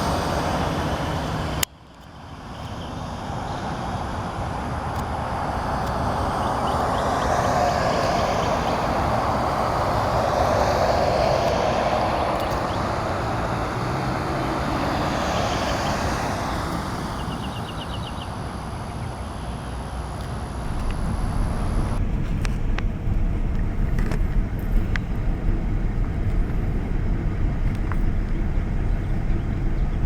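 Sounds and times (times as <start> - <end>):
jet engine rushing: 0.0 - 1.7, 2.8 - 30.0.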